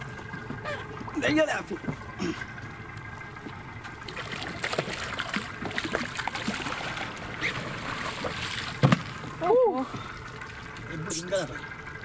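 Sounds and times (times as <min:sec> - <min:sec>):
fish thrashing and water splashing: 0:01.8 - 0:11.6.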